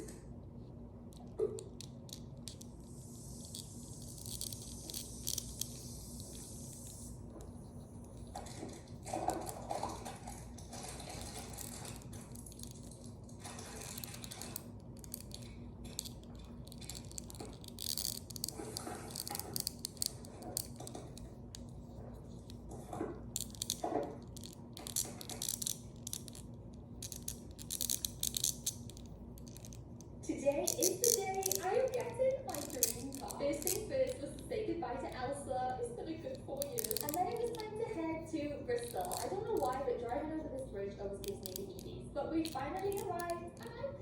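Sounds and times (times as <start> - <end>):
faint steady hum: 0.0 - 44.0
plastic toys clicking and rattling: 1.1 - 7.1, 8.0 - 21.7, 22.3 - 35.2, 36.2 - 44.0.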